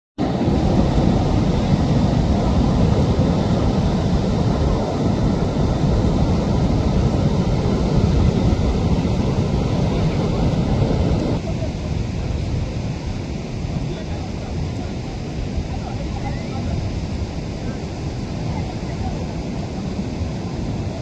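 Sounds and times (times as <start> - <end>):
sea surf: 0.2 - 21.0
wind buffeting microphone: 0.2 - 21.0.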